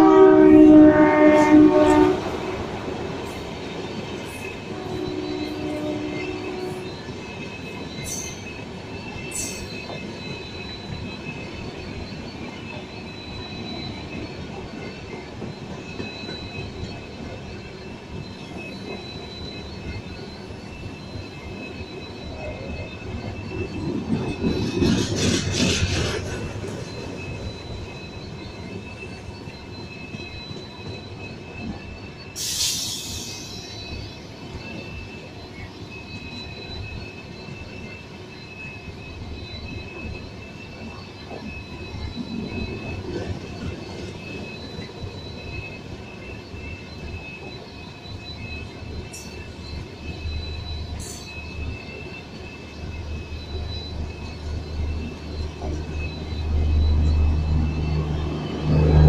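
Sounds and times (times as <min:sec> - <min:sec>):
train wheels rumbling on rail: 0:00.0 - 0:59.0
wheel squeal: 0:04.2 - 0:59.0.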